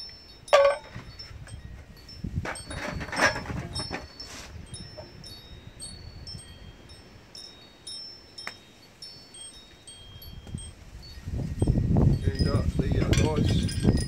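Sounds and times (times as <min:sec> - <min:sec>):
wind chimes ringing: 0:00.0 - 0:14.0.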